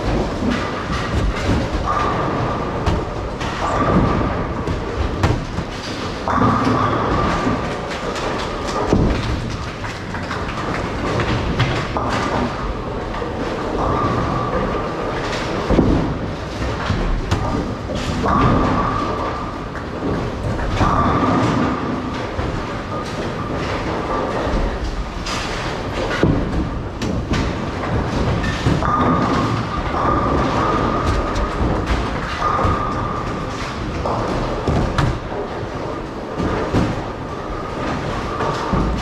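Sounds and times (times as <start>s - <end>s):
bowling balls rolling: 0.0s - 39.0s
bowling pins crashing: 0.0s - 39.0s.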